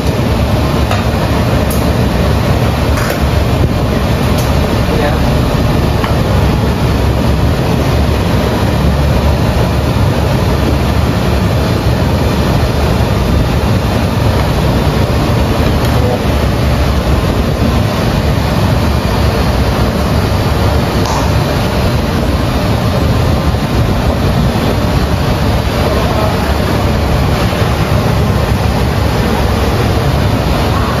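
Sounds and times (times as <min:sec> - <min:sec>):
gas stove burners roaring: 0:00.0 - 0:31.0.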